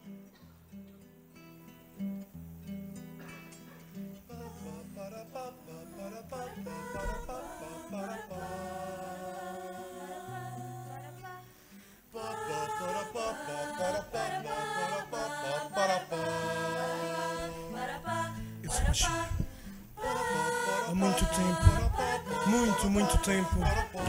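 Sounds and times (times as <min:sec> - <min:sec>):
choir singing a cappella: 0:04.3 - 0:24.0.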